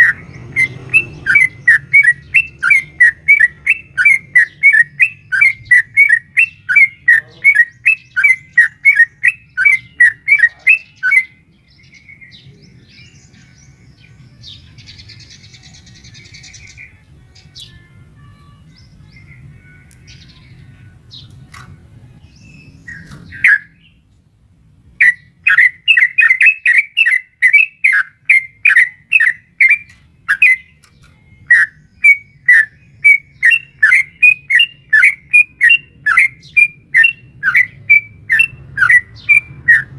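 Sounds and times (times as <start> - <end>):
bird chirping rapidly: 0.0 - 17.8, 22.2 - 24.0, 25.0 - 39.9.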